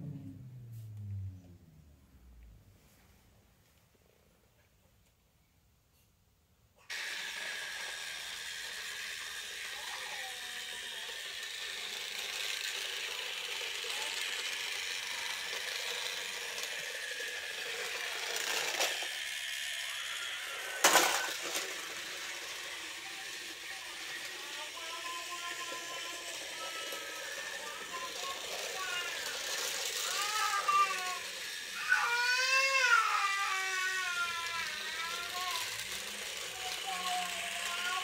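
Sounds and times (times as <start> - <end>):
toy train motor whirring: 6.8 - 38.0.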